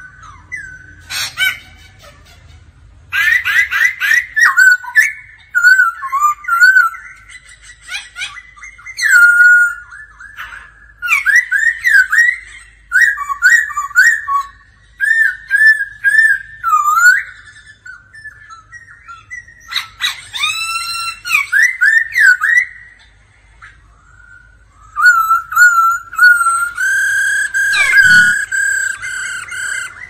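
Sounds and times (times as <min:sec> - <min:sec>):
bird singing whistled song: 0:00.0 - 0:01.4, 0:03.2 - 0:23.0, 0:24.0 - 0:30.0.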